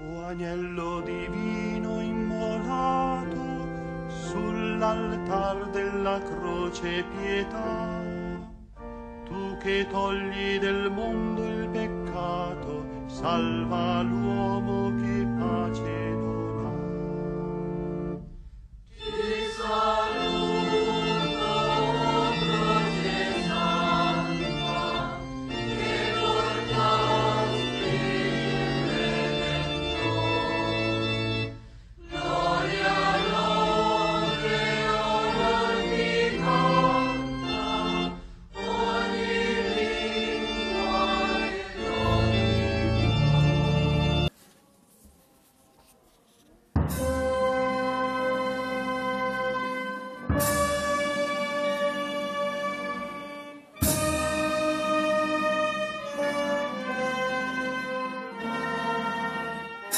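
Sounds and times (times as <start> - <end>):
church choir singing a hymn: 0.0 - 8.5, 9.3 - 17.7, 19.0 - 44.4, 46.9 - 59.9.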